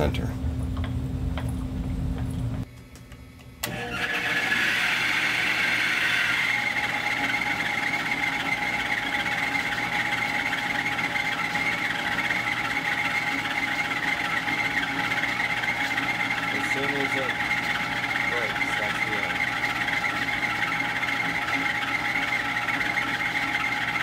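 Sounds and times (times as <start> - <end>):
milling machine spindle whine: 3.6 - 24.0.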